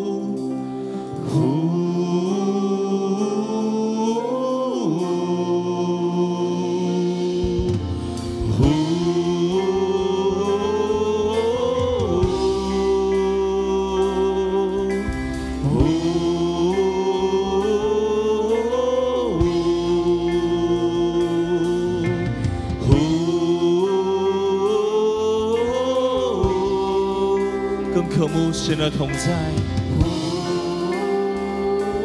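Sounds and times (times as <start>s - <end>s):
acoustic guitar: 0.0s - 32.0s
man singing: 0.0s - 32.0s
soft steady backing: 0.0s - 32.0s.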